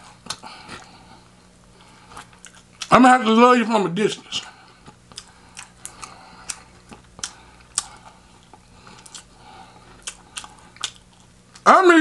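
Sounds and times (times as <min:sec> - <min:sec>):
crunchy chewing: 0:00.0 - 0:02.9, 0:04.4 - 0:11.7.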